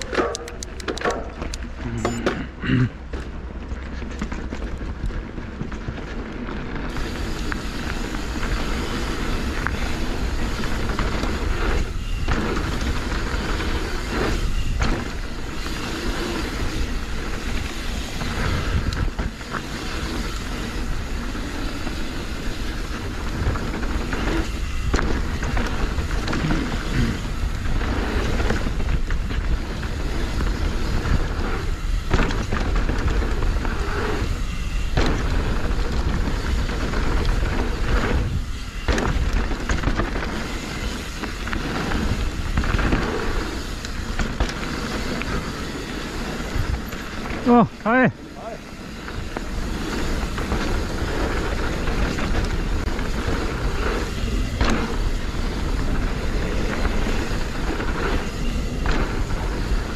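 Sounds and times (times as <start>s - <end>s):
bike parts rattling: 0.0s - 59.9s
tyres rushing on dirt: 0.0s - 59.9s.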